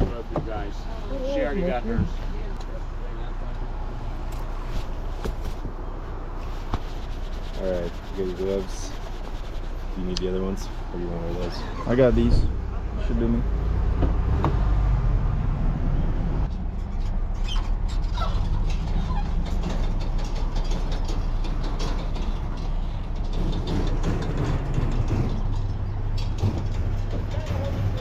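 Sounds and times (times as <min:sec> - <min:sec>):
vehicle engine idling: 0:00.1 - 0:14.8, 0:15.4 - 0:28.0.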